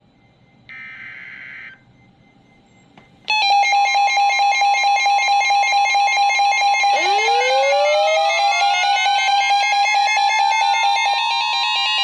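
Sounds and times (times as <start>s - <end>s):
pulsing electronic alarm tone: 0.0s - 12.0s.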